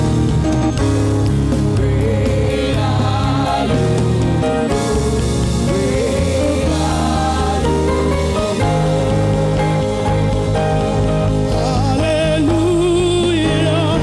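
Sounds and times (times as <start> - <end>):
gospel music with choir and band: 0.0 - 14.0
held bass notes: 0.0 - 14.0.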